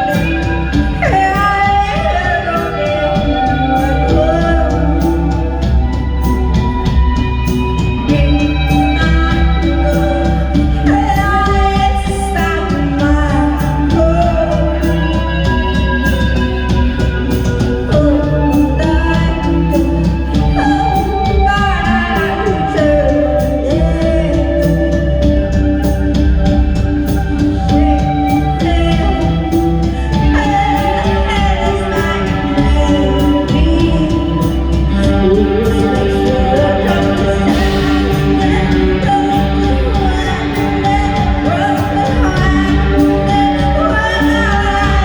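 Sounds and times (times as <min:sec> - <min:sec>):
guitar and bass notes: 0:00.0 - 0:45.0
person singing: 0:00.0 - 0:45.0
steady drum beat: 0:00.0 - 0:45.0.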